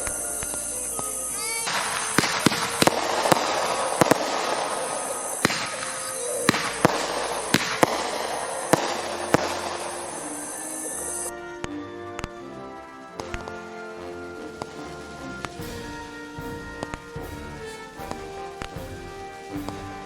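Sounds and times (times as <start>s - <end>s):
fireworks spraying hiss: 0.0s - 20.0s
firework pops and cracks: 0.1s - 12.4s, 14.6s - 20.0s.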